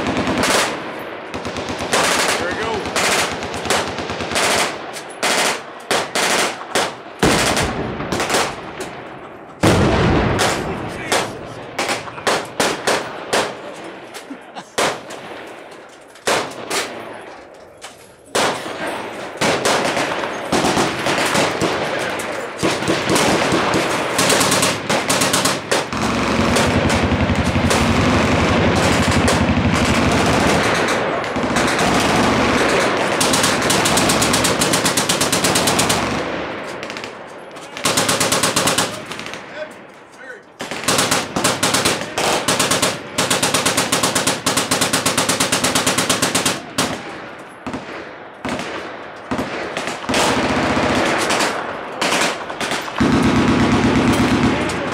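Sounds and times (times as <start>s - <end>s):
machine-gun fire: 0.0s - 9.0s, 9.6s - 13.7s, 14.8s - 15.4s, 18.3s - 37.2s, 37.8s - 39.5s, 40.6s - 54.9s.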